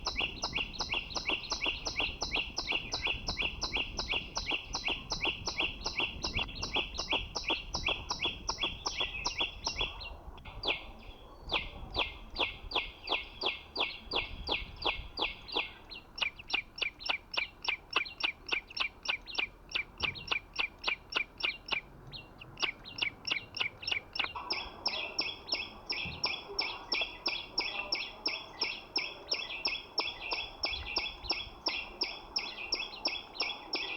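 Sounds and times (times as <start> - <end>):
songbird high chirps: 0.0 - 33.9.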